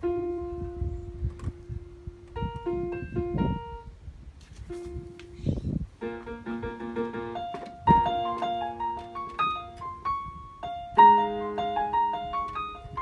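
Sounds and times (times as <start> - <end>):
electronic keyboard chords: 0.0 - 4.0, 4.7 - 13.0
keyboard melody notes: 0.0 - 4.0, 4.7 - 13.0.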